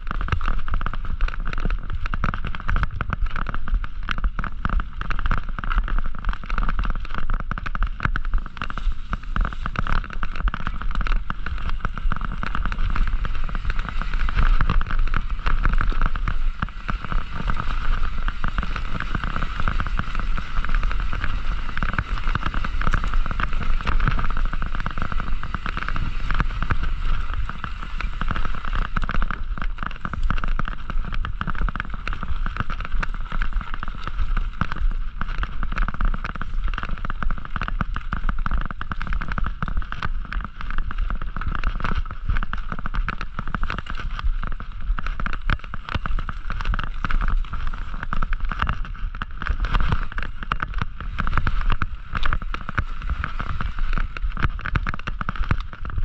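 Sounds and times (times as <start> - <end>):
bike rattling: 0.0 - 56.0
bike tyres rolling on dirt: 0.0 - 56.0.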